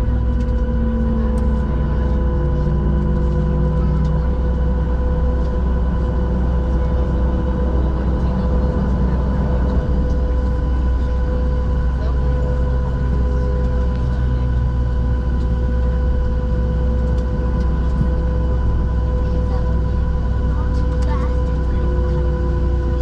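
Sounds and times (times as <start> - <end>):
airplane cabin low rumble: 0.0 - 23.0
constant high whine: 0.0 - 23.0.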